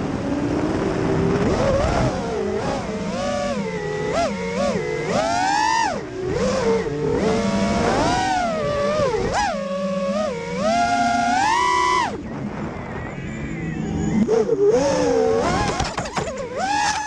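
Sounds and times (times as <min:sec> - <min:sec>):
quadcopter motors whining: 0:00.1 - 0:17.0.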